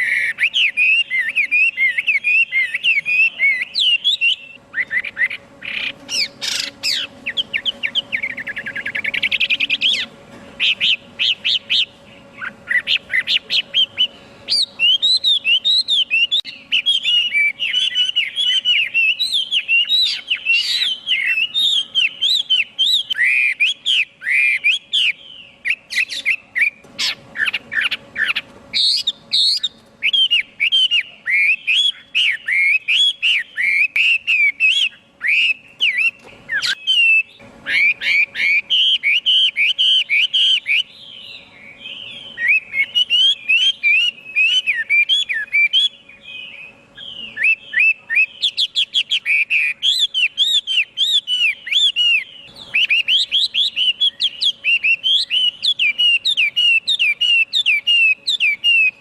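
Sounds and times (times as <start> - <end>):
songbird singing whistled phrases: 0.0 - 59.0.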